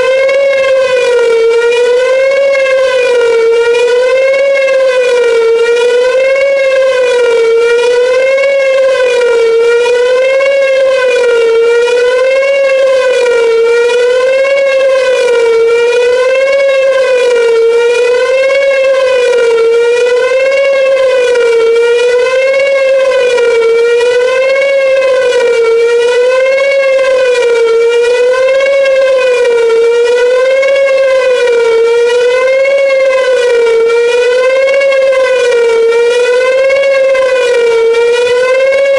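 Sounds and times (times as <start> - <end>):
wavering warning siren: 0.0 - 38.9.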